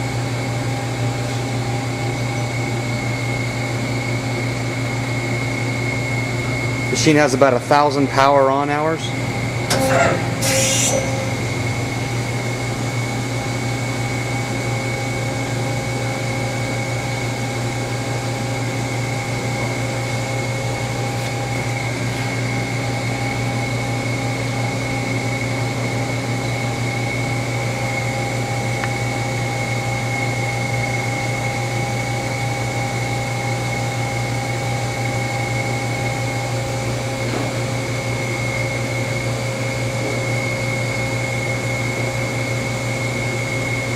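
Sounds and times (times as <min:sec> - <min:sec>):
machine hum with high whine: 0:00.0 - 0:43.9.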